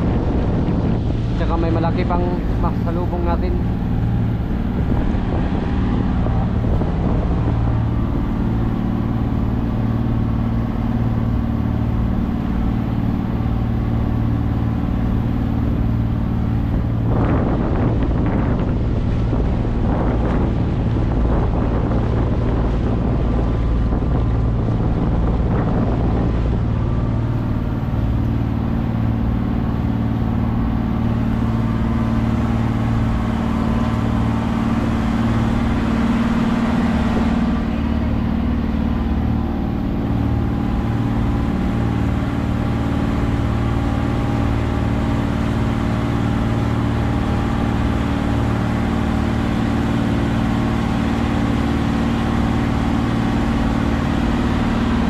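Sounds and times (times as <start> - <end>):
boat engine running: 0.0 - 55.0
rushing water and wind: 0.0 - 55.0
waves splashing against hull: 0.0 - 55.0.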